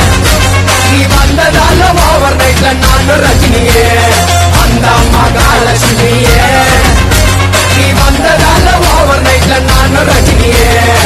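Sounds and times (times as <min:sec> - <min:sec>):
song with strong bass line: 0:00.0 - 0:11.0.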